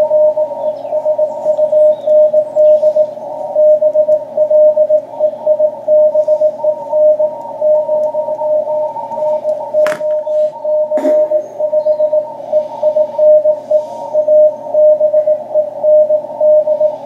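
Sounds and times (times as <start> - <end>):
morse code beeps: 0.0 - 17.0
radio band noise hiss: 0.0 - 17.0.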